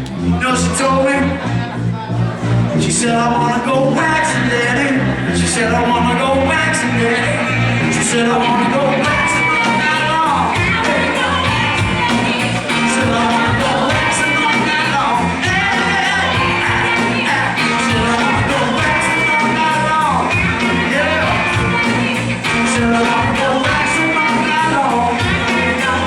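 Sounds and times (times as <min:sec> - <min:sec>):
live band playing: 0:00.1 - 0:26.0
person singing: 0:00.2 - 0:26.0.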